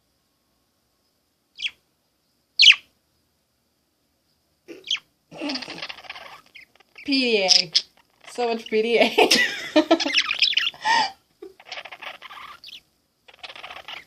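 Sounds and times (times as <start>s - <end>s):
small bird chirping: 1.0s - 3.3s, 4.2s - 14.0s.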